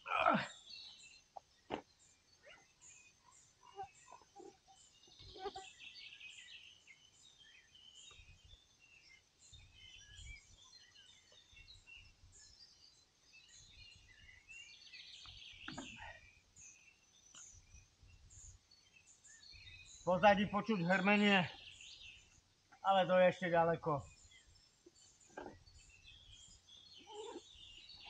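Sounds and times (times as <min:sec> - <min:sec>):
faint birdsong: 0:00.0 - 0:28.0.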